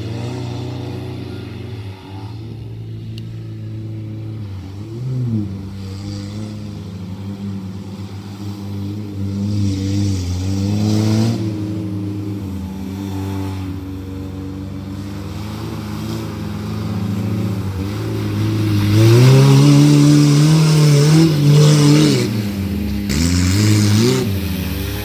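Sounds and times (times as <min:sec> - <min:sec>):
engine revving: 0:00.0 - 0:25.0
mud churning and spraying: 0:00.0 - 0:25.0.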